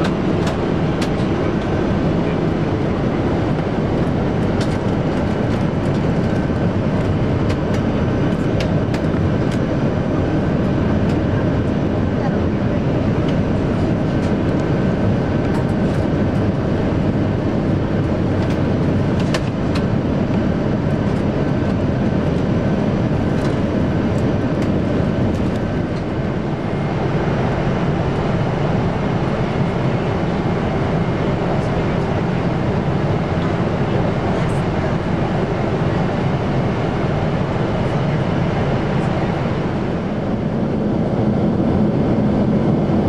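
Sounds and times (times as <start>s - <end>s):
airliner cabin engine drone: 0.0s - 43.0s.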